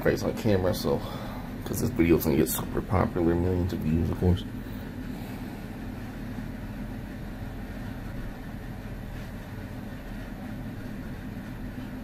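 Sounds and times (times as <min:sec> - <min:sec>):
low rumble of room noise: 0:00.0 - 0:12.0.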